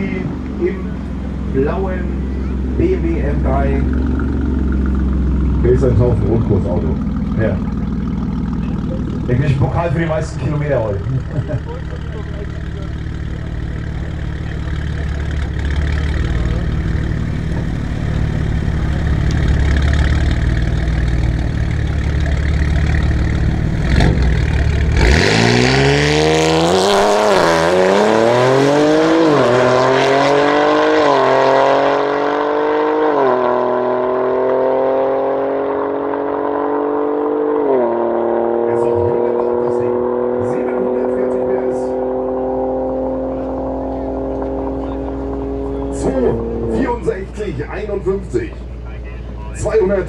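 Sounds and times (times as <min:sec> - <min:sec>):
car engine idling: 0:00.0 - 0:25.7, 0:32.3 - 0:50.0
car engine accelerating with upshifts: 0:00.0 - 0:50.0.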